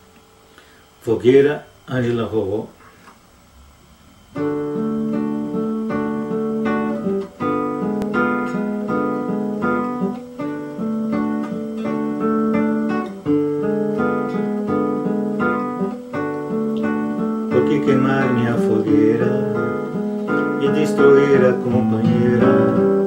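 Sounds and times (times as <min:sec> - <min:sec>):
acoustic guitar strumming: 0:04.3 - 0:23.0.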